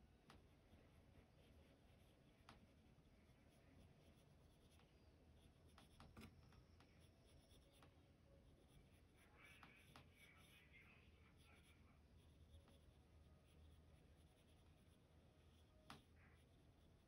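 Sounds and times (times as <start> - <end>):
pencil scratching on paper: 0.2 - 17.0.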